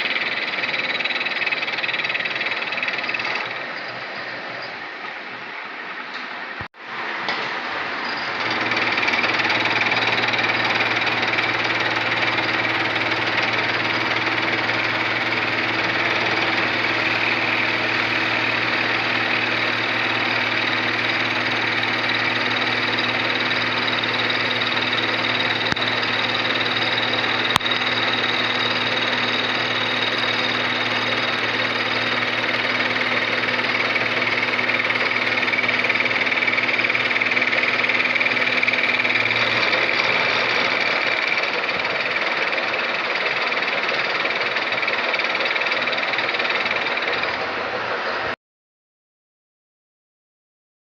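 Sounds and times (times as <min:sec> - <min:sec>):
milling machine running: 0:00.0 - 0:05.2, 0:06.9 - 0:48.3.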